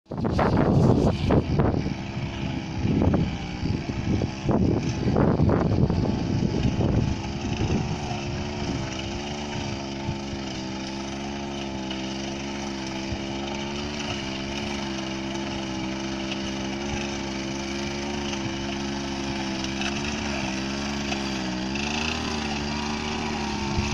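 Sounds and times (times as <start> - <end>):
small engine running: 0.1 - 23.9.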